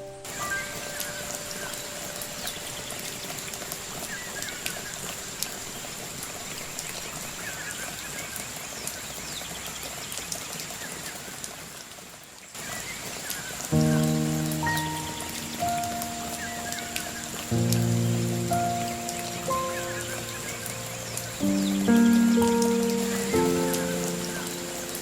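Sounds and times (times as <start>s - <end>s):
bird chirps: 0.0s - 11.4s, 12.6s - 25.0s
rain pattering: 0.0s - 25.0s.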